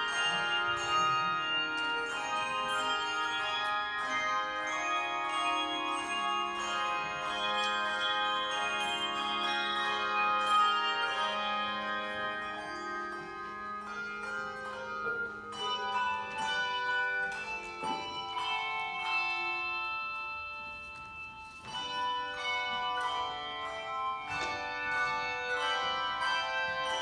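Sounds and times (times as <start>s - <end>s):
handbell chords ringing: 0.0s - 27.0s.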